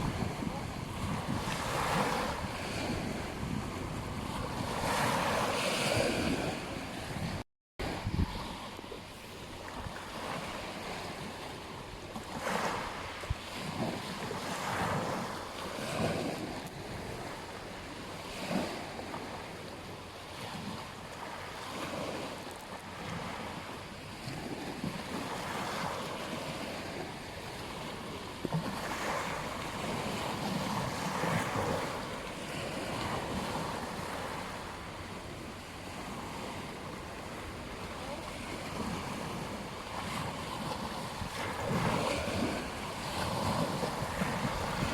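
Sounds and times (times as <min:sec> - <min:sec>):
wind buffeting microphone: 0:00.0 - 0:19.4, 0:23.0 - 0:44.9
ocean waves breaking: 0:00.0 - 0:44.9.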